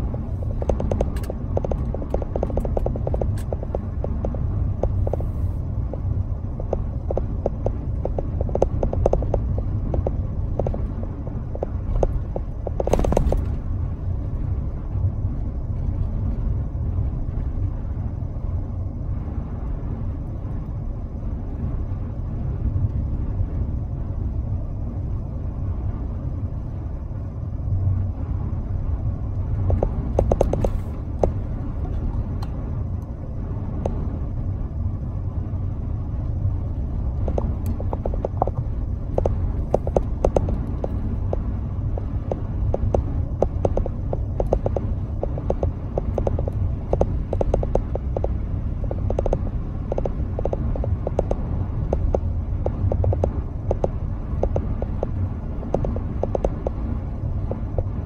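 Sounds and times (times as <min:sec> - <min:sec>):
car driving rumble inside cabin: 0:00.0 - 0:58.0.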